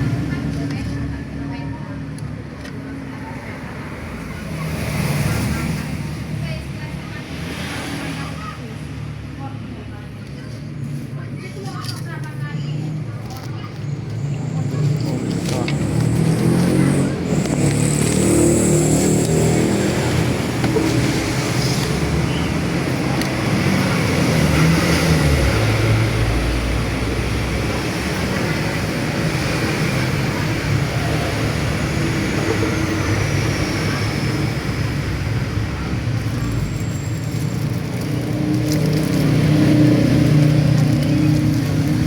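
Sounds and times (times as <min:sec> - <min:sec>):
traffic engines passing: 0:00.0 - 0:42.0.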